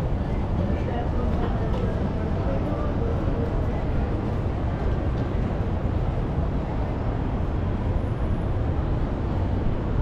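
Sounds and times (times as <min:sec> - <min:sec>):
low city rumble: 0:00.0 - 0:10.0.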